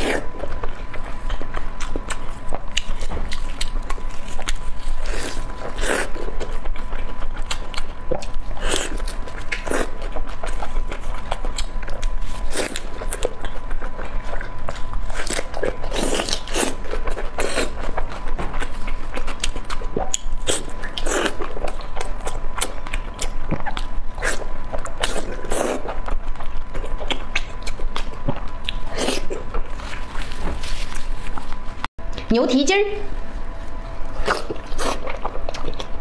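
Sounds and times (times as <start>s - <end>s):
wet biting and chewing: 0.0s - 31.7s, 33.8s - 36.0s.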